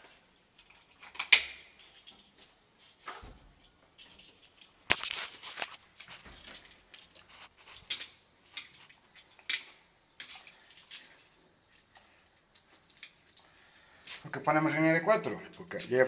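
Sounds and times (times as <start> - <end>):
light clicks taps and scrapes: 0.6 - 13.5.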